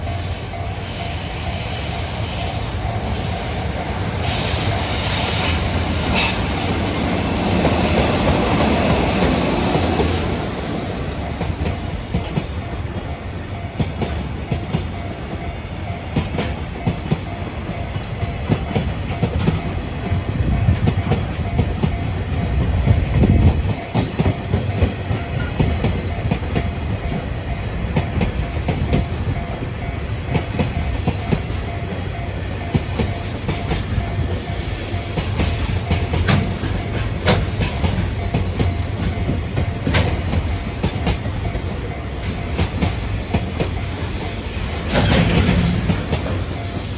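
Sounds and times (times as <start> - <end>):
low train rumble: 0.0 - 46.9
train wheels clattering over rail joints: 3.0 - 46.9.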